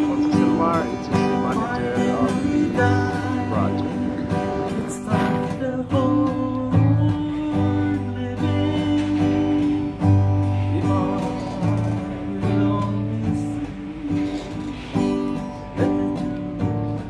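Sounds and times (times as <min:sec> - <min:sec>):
background guitar music: 0:00.0 - 0:17.0.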